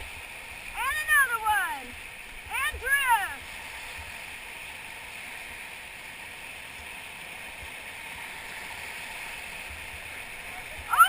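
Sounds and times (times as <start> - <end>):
whitewater rushing: 0.0 - 11.0.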